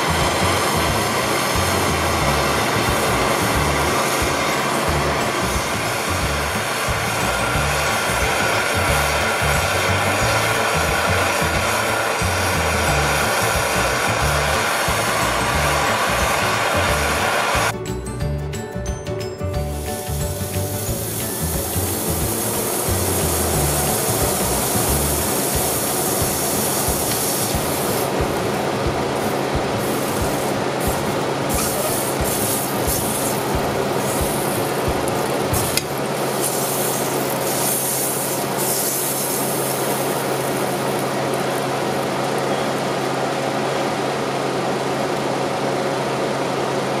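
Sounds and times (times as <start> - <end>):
butter sizzling: 0.0 - 17.7, 19.7 - 42.5.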